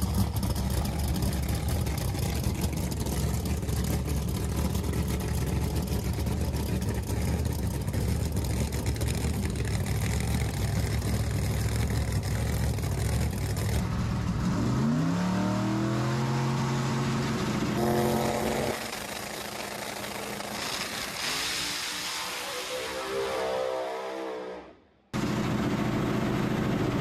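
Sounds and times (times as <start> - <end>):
car engine idling and revving: 0.0 - 23.2, 25.2 - 27.0.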